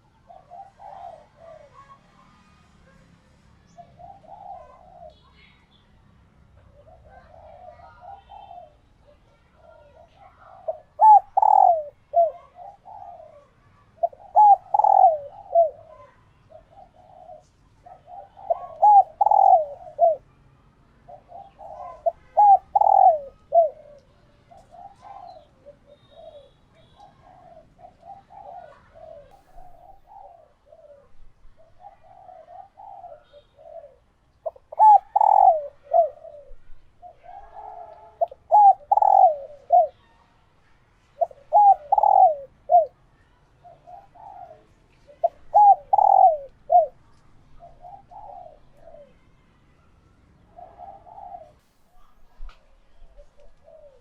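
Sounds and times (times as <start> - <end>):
doves cooing: 0.0 - 2.0, 3.7 - 5.2, 6.6 - 20.3, 21.1 - 40.0, 41.2 - 43.0, 43.6 - 47.0, 47.6 - 49.2, 50.4 - 51.6, 53.0 - 54.0.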